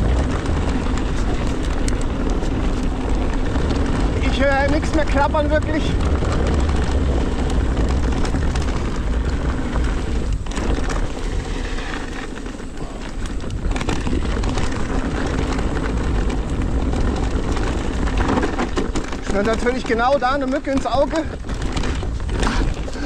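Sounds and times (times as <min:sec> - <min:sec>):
bike clicks and knocks: 0:00.0 - 0:23.0
rumble of wind and tyres: 0:00.0 - 0:23.0.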